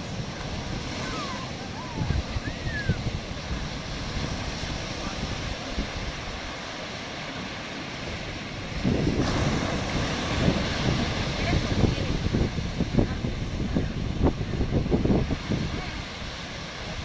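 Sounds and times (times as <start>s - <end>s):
ocean surf washing ashore: 0.0s - 17.0s
wind rumbling on microphone: 0.0s - 17.0s.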